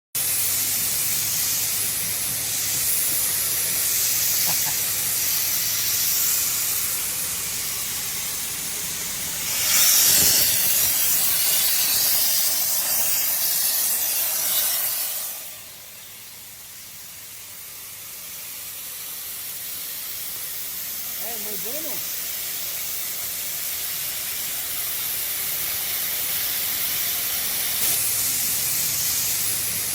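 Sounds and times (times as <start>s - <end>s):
welding arc hissing: 0.2s - 29.9s.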